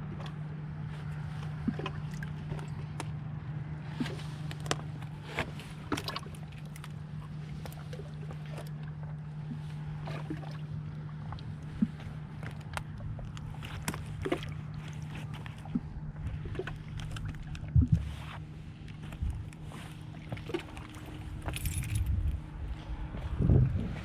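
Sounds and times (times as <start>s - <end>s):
small waves lapping: 0.0s - 24.0s
steady low hum: 0.0s - 24.0s.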